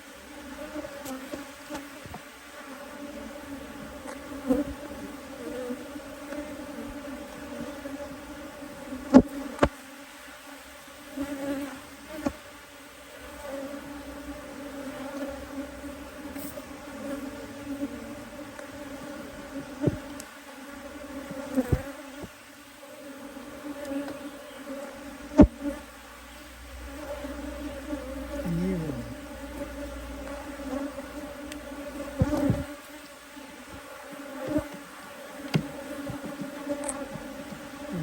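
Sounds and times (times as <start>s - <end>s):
honeybees buzzing: 0.0s - 38.0s.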